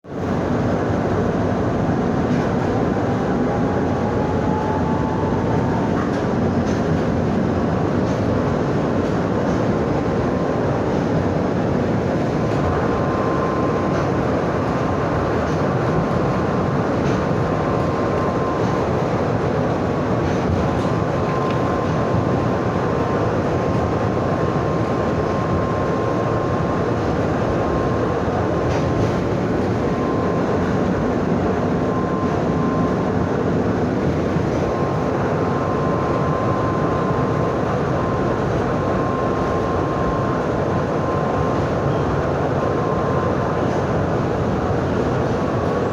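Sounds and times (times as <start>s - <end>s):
tram rumbling on rails: 0.0s - 45.9s.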